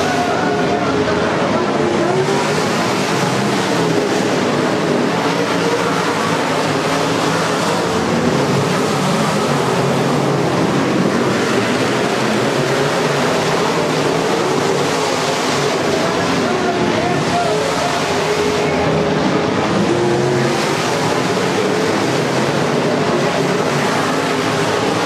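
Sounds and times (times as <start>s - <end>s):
race car engines roaring: 0.0s - 25.0s.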